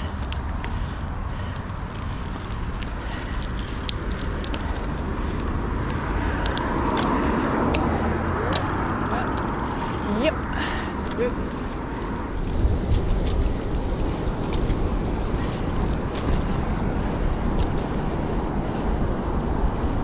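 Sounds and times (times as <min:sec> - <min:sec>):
bicycle road and wind noise: 0:00.0 - 0:20.0.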